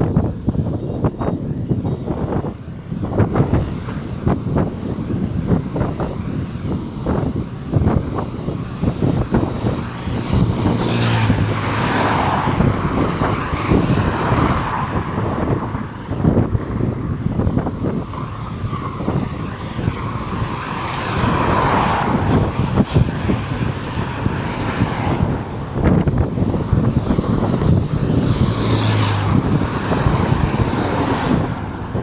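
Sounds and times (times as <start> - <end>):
vehicles passing on highway: 0.0 - 32.0
wind buffeting microphone: 0.0 - 32.0.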